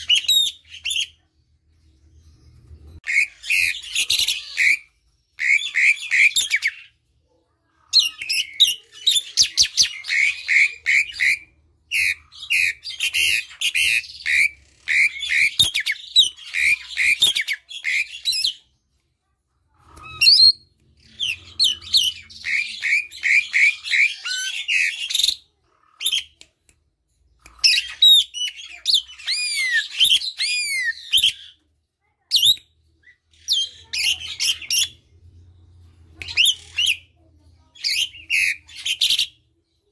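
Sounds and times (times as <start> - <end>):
starling chattering song: 0.0 - 39.9.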